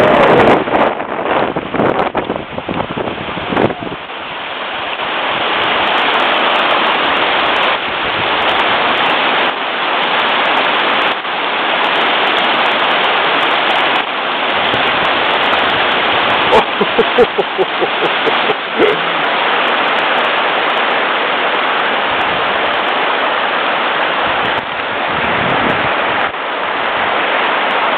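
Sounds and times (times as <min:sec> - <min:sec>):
water rushing through dam gap: 0:00.0 - 0:27.9.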